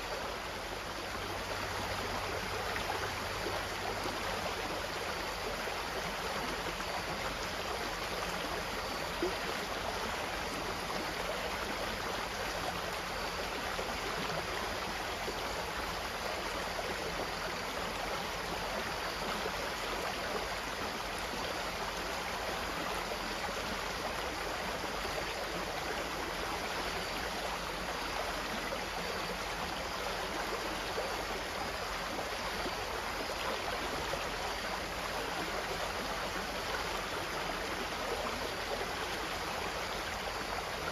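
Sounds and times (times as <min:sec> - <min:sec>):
water flowing: 0:00.0 - 0:40.9.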